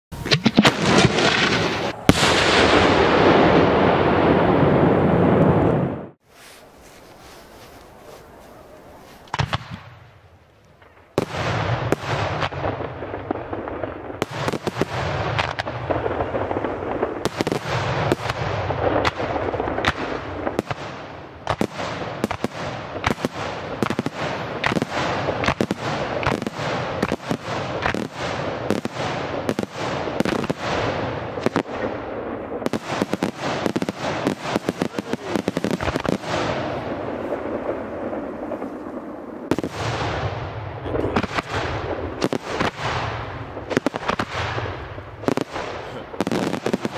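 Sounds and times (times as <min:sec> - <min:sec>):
firework bangs: 0:00.1 - 0:06.6, 0:08.0 - 0:46.9.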